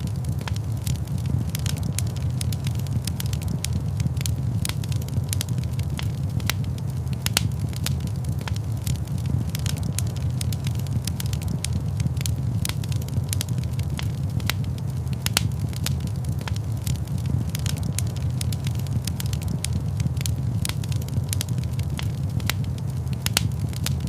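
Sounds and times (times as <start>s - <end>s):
fire pops and snaps: 0.0s - 24.0s
low fire rumble: 0.0s - 24.0s
wood fire crackling: 0.0s - 24.0s.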